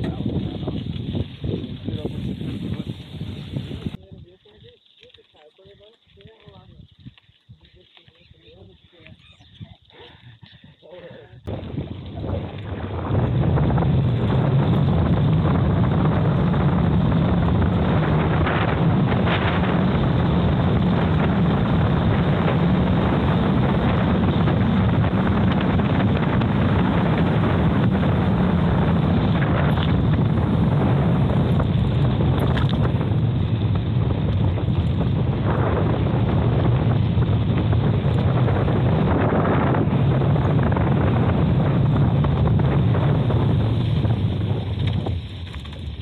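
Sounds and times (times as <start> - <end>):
wind rush on microphone: 0.0 - 4.7, 6.1 - 46.0.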